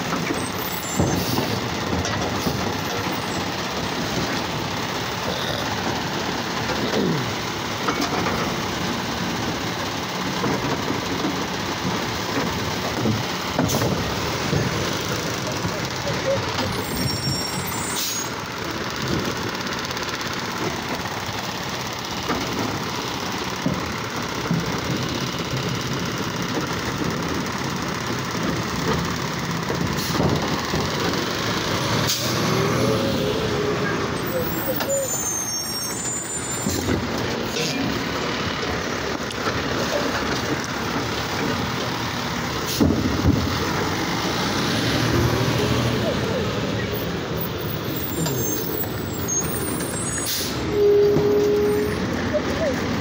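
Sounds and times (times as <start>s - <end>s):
garbage truck running: 0.0s - 53.0s.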